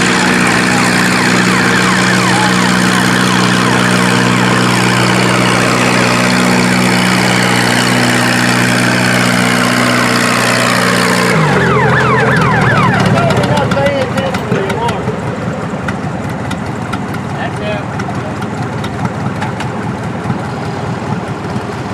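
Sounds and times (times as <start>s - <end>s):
tractor engine running hard: 0.0s - 21.9s.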